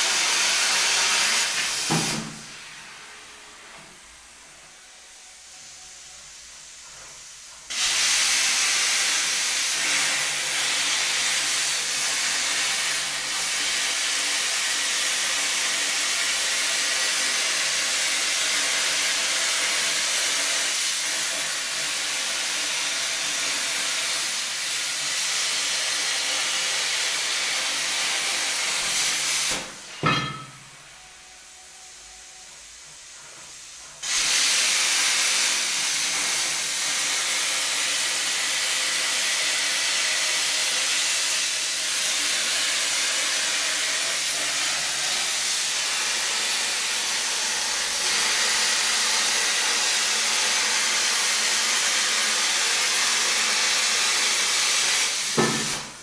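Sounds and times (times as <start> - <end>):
plasma cutter hissing: 0.0 - 2.8, 5.3 - 30.9, 33.6 - 56.0.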